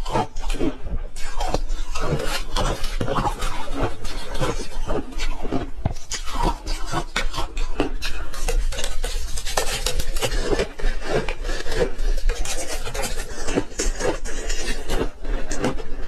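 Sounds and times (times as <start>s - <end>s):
ice being crunched and chewed: 0.0s - 16.0s.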